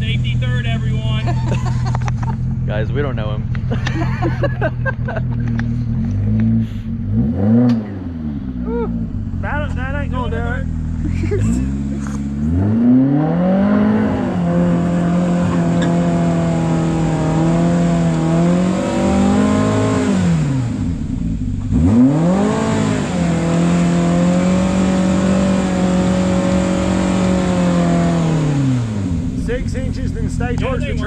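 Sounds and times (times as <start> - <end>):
off-road buggy engine revving: 0.0 - 31.0.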